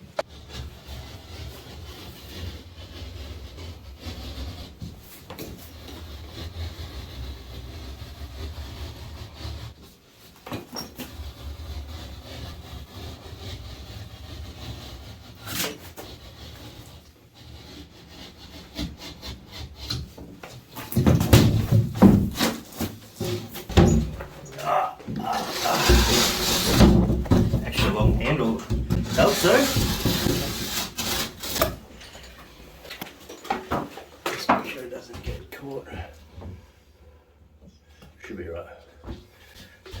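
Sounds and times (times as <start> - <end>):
rubbing and scraping plasterboard: 0.1 - 40.0.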